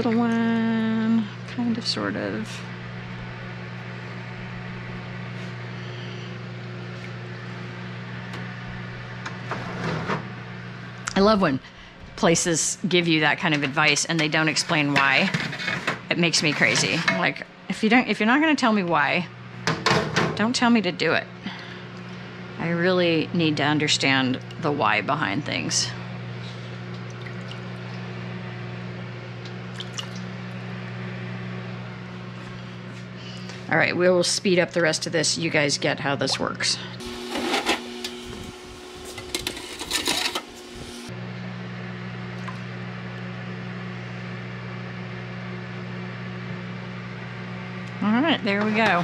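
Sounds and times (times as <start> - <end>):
kitchen appliance humming: 0.0 - 49.0.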